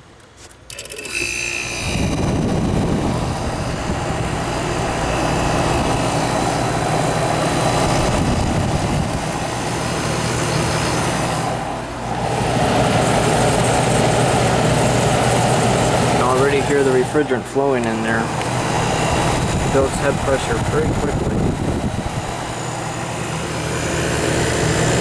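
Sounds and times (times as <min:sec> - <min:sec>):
dehumidifier running: 0:00.0 - 0:25.0.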